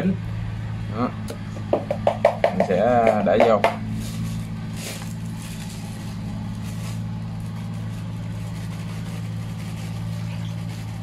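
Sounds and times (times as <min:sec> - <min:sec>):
motor idling hum: 0:00.0 - 0:11.0.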